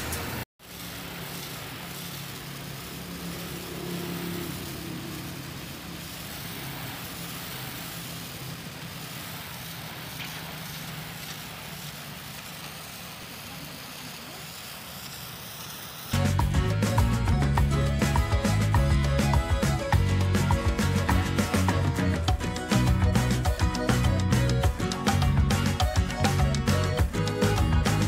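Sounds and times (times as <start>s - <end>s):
high-pressure water jet hissing: 0.0s - 28.0s
pressure washer motor hum: 0.0s - 28.0s.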